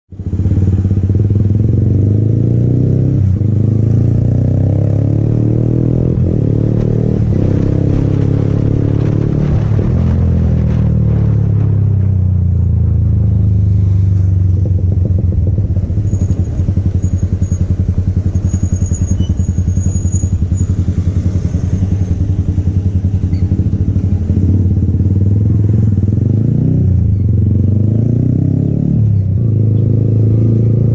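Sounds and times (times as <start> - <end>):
motorcycle engine running: 0.1 - 28.0.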